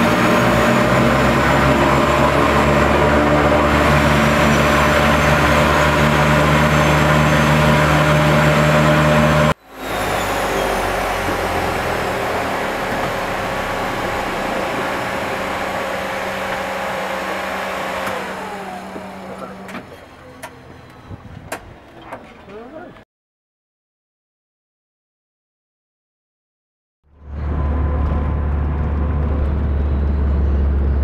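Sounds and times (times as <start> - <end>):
engine hum winding down: 0.0 - 21.8, 27.1 - 31.0
propeller engines running: 0.0 - 22.9, 27.2 - 31.0.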